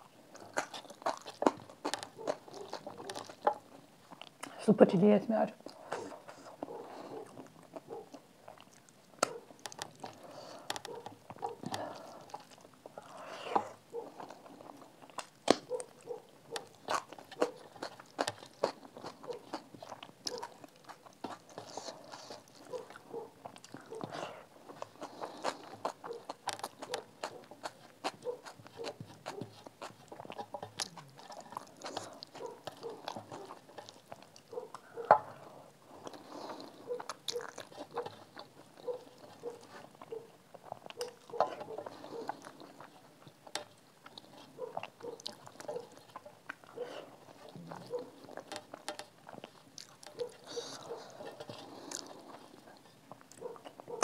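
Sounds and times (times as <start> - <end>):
chewing and lip smacking: 0.0 - 4.6, 5.6 - 54.0
food crunching: 0.0 - 54.0.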